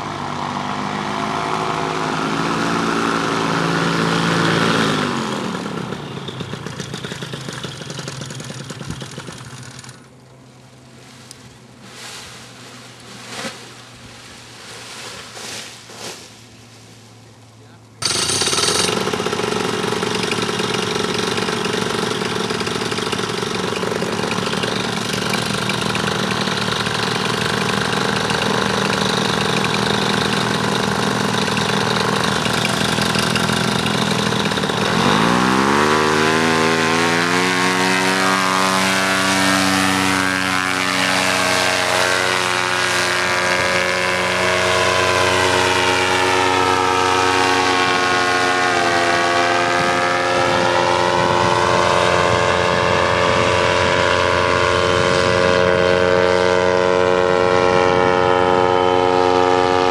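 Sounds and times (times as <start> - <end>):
paramotor engine and propeller: 0.0 - 59.9.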